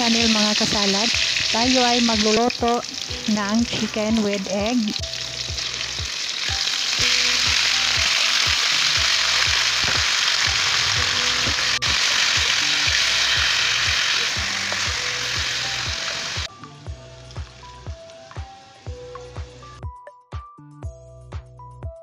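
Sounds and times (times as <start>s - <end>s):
chicken sizzling in hot oil: 0.0s - 19.8s.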